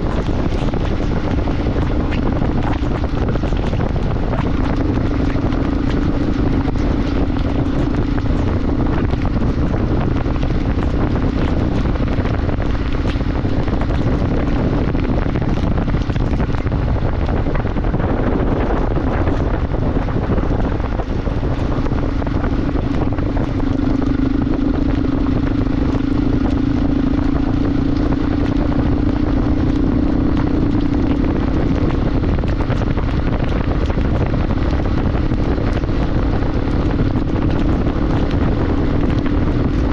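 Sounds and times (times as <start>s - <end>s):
motorcycle engine droning: 0.0s - 39.9s
wind noise on microphone: 0.0s - 39.9s.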